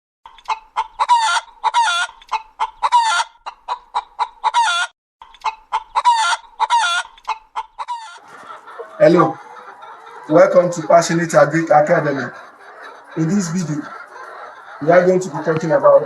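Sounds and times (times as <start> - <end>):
chicken clucking: 0.4 - 4.8, 5.4 - 16.0.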